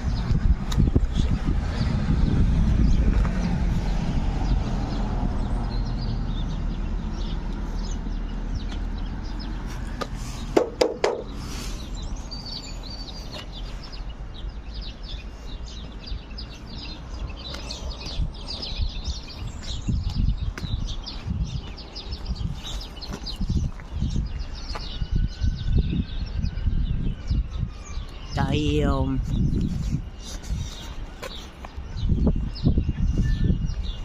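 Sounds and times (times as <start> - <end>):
birds chirping: 0.0 - 34.0
wind buffeting microphone: 0.0 - 34.0.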